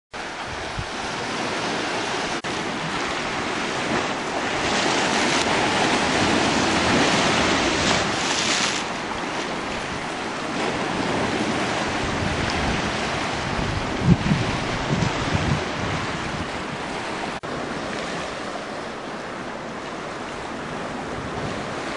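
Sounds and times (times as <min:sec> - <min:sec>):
surf breaking over rocks: 0:00.2 - 0:21.9
wind gusts on microphone: 0:00.2 - 0:21.9.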